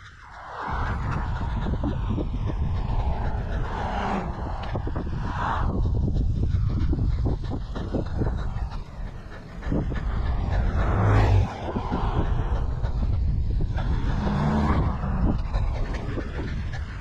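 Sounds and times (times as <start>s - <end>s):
road traffic passing: 0.0s - 17.0s
wind rumble on microphone: 0.0s - 17.0s.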